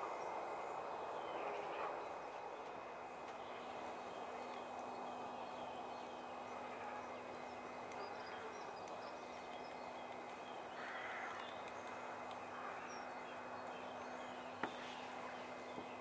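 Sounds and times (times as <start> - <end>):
low constant hum: 0.0 - 16.0
outdoor background rush: 0.0 - 16.0
small birds chirping: 0.2 - 16.0.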